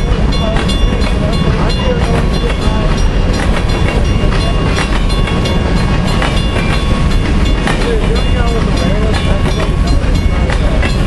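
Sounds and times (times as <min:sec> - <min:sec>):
freight train rumble: 0:00.0 - 0:11.0
train wheel clicks and clatter: 0:00.0 - 0:11.0.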